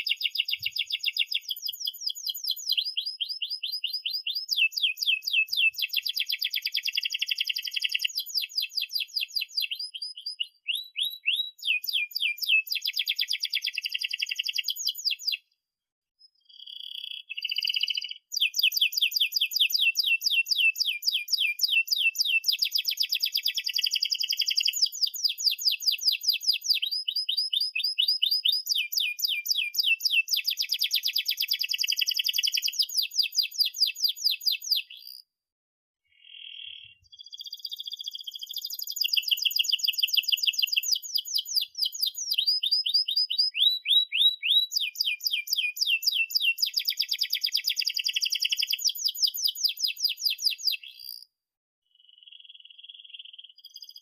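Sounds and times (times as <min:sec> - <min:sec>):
canary singing chirps and trills: 0:00.0 - 0:15.6, 0:16.2 - 0:35.3, 0:36.0 - 0:51.3, 0:51.9 - 0:54.0.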